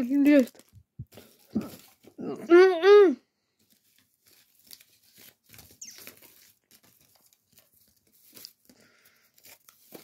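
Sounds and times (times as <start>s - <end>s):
rustling of toys and packaging: 0.0s - 10.0s.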